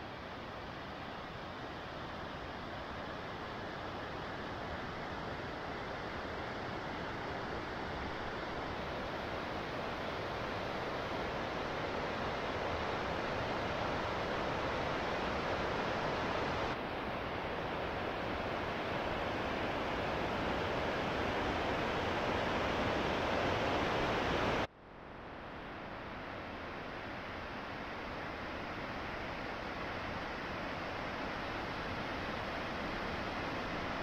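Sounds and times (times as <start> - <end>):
mountain stream rushing: 0.0 - 24.7, 25.8 - 34.0.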